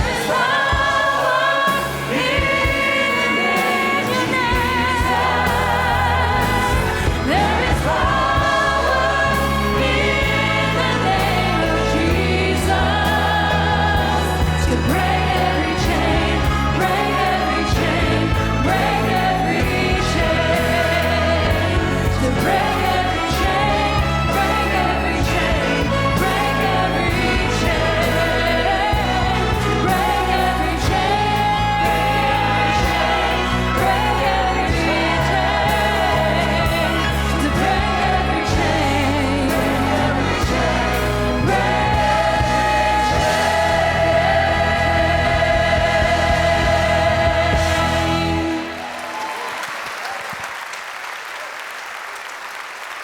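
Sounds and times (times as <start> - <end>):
steady bass line: 0.0 - 48.8
orchestra accompaniment: 0.0 - 49.4
choir singing: 0.0 - 49.6.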